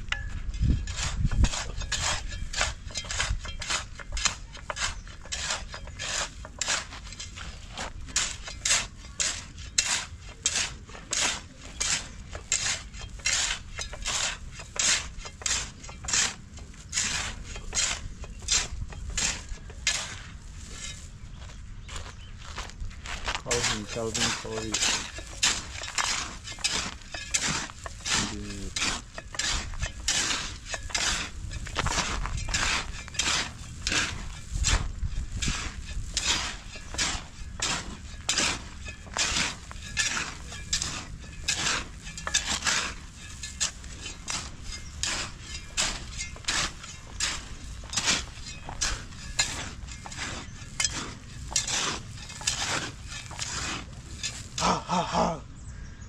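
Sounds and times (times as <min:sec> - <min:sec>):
tools scraping wet concrete: 0:00.0 - 0:21.5, 0:23.0 - 0:55.3.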